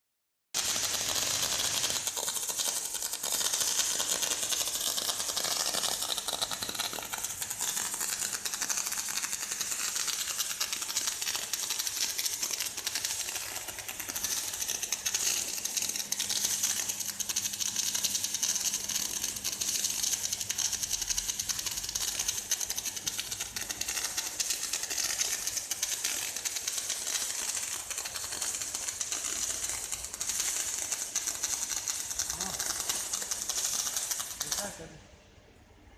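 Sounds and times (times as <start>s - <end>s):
welding arc crackling: 0.6s - 35.0s.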